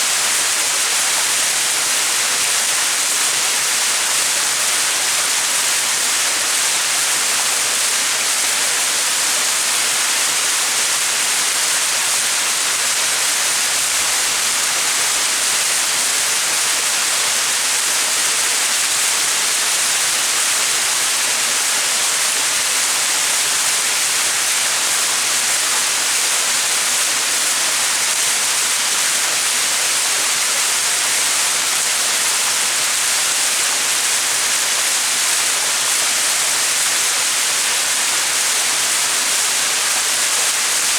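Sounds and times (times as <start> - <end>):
waterfall splashing and rushing: 0.0 - 40.9.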